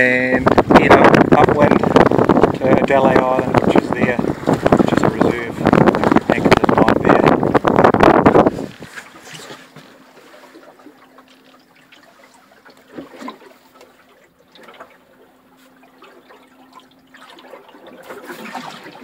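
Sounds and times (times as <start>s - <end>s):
water lapping against hull: 0.0s - 19.0s.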